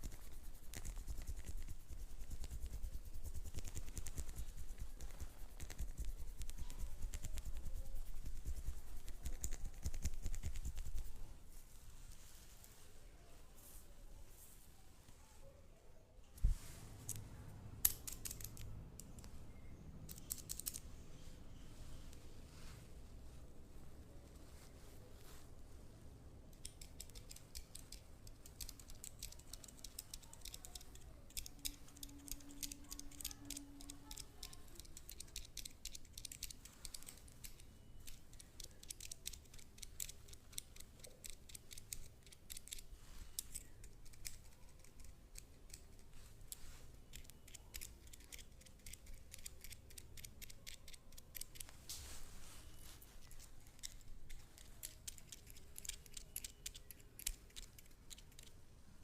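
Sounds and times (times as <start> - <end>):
massage clicks and scratches: 0.0 - 12.8, 17.8 - 19.4, 20.0 - 21.0, 26.5 - 58.7
low steady hum: 0.0 - 59.0.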